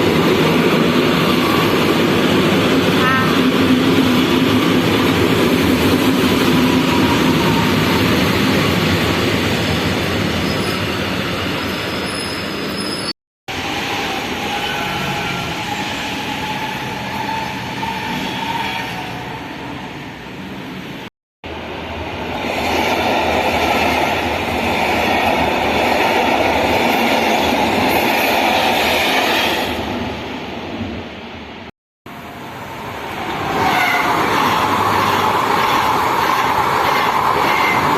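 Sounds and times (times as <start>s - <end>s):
trains rumbling past: 0.0s - 37.9s.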